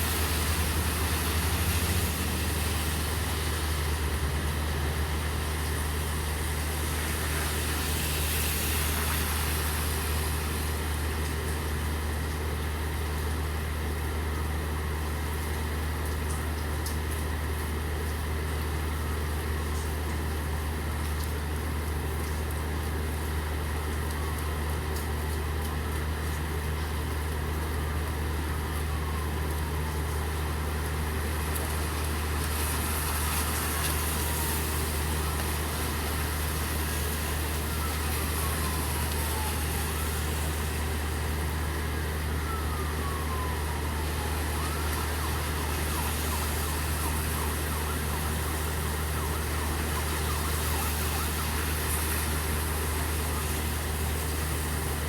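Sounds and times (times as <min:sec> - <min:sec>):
low engine hum: 0:00.0 - 0:18.4, 0:19.7 - 0:55.0
rain hiss: 0:00.0 - 0:27.0, 0:27.6 - 0:55.0
distant siren wailing: 0:00.0 - 0:55.0.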